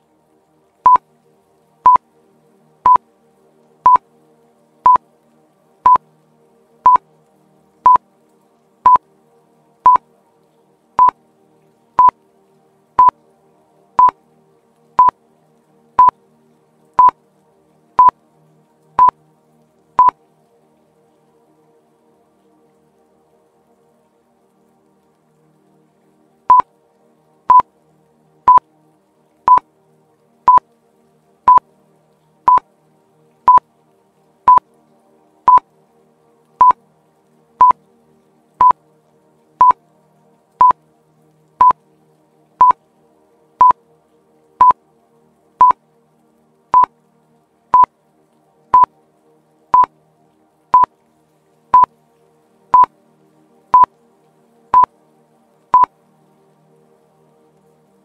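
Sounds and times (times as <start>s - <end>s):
faint background music: 0.0s - 58.0s.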